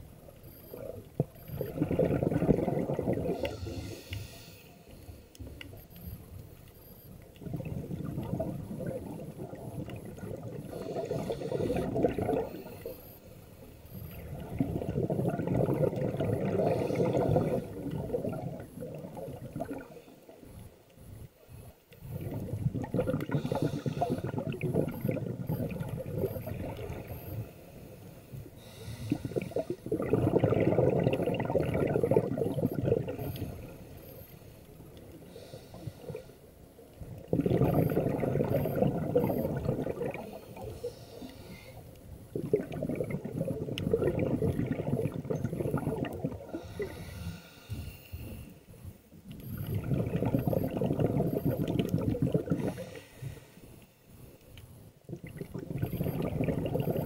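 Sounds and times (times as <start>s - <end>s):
exhaled bubbles from regulator: 0.0s - 4.3s, 7.3s - 13.2s, 13.9s - 20.3s, 22.0s - 27.6s, 28.3s - 36.4s, 37.0s - 48.5s, 49.3s - 53.5s, 55.0s - 57.0s.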